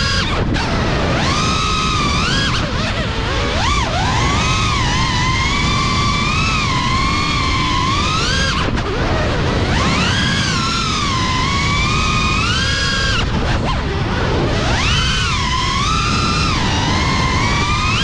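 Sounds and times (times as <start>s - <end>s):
drone propellers whining: 0.0s - 18.0s
wind rumble: 0.0s - 18.0s.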